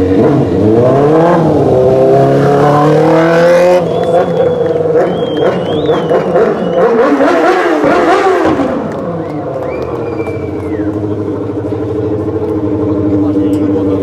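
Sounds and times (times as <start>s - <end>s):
quad engine revving and idling: 0.0s - 14.0s.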